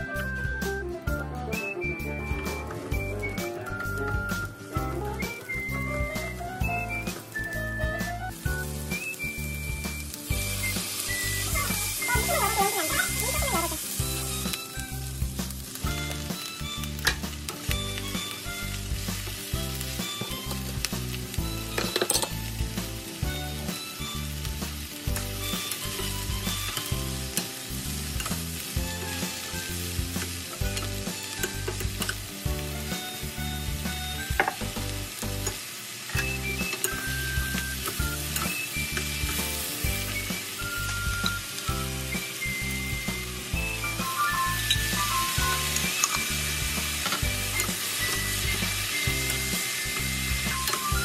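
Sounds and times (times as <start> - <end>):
mushrooms and onions sizzling: 0.0 - 51.0.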